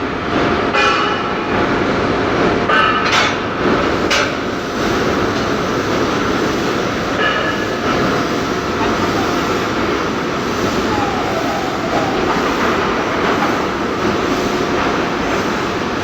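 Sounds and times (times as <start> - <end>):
industrial machine running: 0.0 - 16.0.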